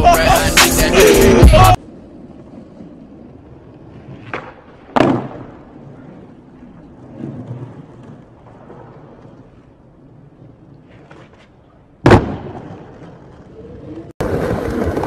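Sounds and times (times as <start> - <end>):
skateboard wheels rolling on concrete: 0.0 - 15.0
skateboard clacks: 2.2 - 9.7, 10.3 - 15.0.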